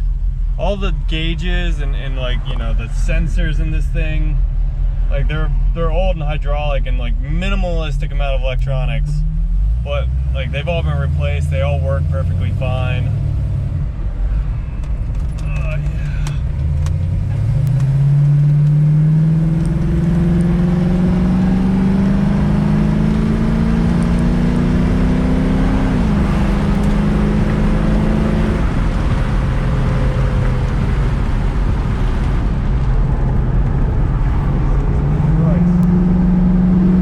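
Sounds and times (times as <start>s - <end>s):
car engine driving: 0.0s - 37.0s.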